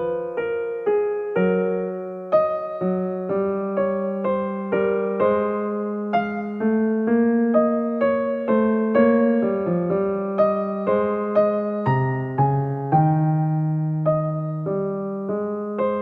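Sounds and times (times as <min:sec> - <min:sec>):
slow piano-like keyboard notes: 0:00.0 - 0:16.0.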